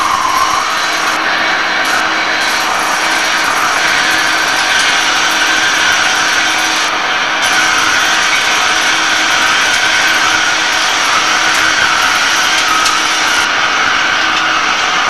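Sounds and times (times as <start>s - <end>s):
high whine: 0.0s - 15.0s
lathe cutting metal: 0.0s - 15.0s.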